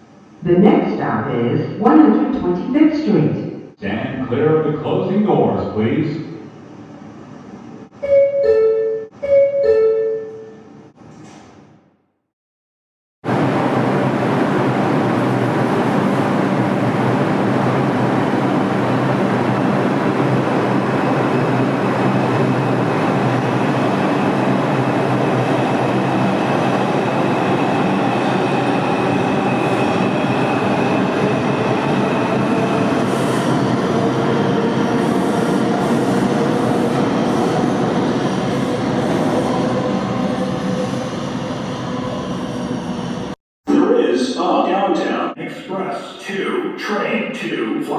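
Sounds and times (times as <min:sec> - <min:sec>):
subway train wheels rumbling: 0:00.0 - 0:11.8, 0:13.2 - 0:44.3.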